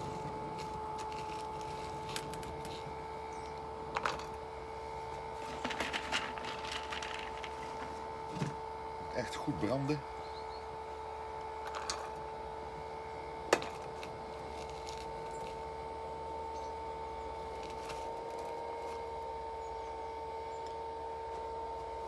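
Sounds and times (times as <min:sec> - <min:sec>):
electric blower fan humming: 0:00.0 - 0:22.0.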